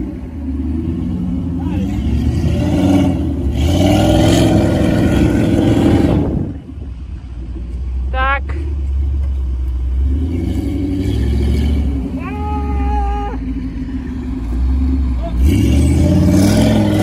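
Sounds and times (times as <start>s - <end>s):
suv engine revving under load: 0.0s - 6.6s, 8.7s - 17.0s.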